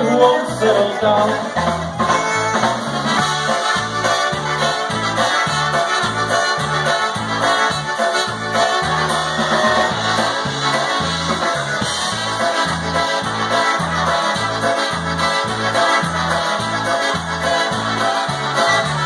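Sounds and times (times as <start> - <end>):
oom-pah bass beat: 0.0 - 19.0
polka band playing: 0.0 - 19.0
trumpets: 0.0 - 19.0.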